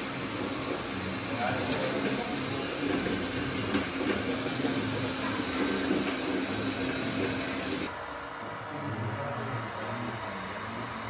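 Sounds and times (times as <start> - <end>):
steady mechanical whine: 0.0 - 11.0.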